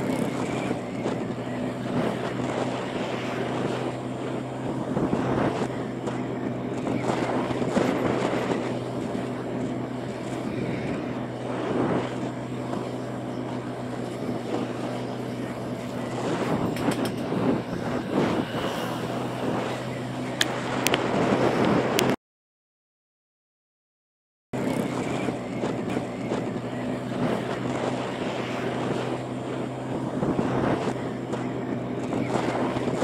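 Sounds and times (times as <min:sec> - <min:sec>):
motorbike engine humming: 0:00.0 - 0:22.2, 0:24.6 - 0:33.0
wind noise on microphone: 0:00.0 - 0:22.2, 0:24.6 - 0:33.0.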